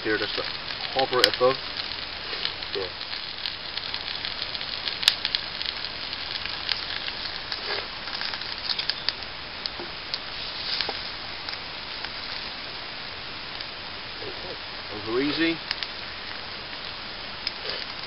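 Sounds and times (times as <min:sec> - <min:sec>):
eggs sizzling in a frying pan: 0:00.0 - 0:18.0
fire crackling: 0:00.0 - 0:18.0.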